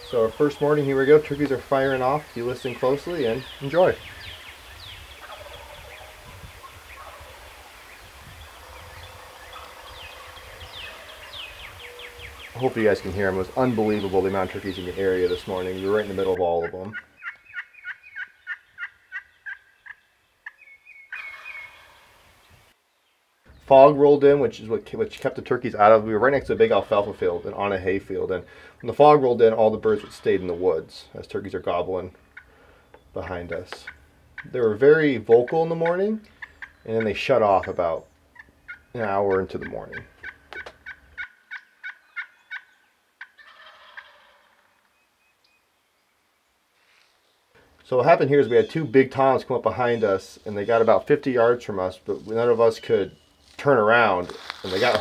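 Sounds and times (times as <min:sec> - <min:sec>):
wild turkeys calling: 0:00.0 - 0:22.8, 0:26.7 - 0:45.6, 0:46.8 - 0:55.0.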